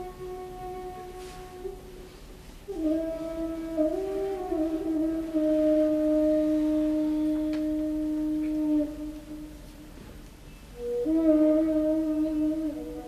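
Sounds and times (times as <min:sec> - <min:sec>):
person humming a tune: 0:00.0 - 0:02.0, 0:02.7 - 0:09.8, 0:10.8 - 0:13.0.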